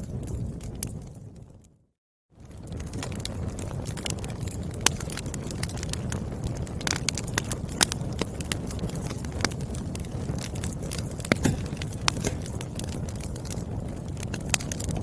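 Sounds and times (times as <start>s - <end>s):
wood fire crackling and popping: 0.0s - 1.8s, 2.4s - 15.0s.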